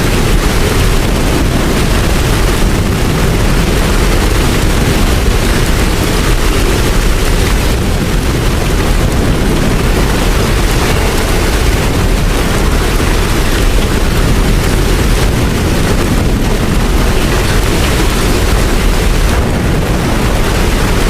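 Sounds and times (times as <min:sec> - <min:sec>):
deep low rumble: 0:00.0 - 0:21.0
steady rain: 0:00.0 - 0:21.0.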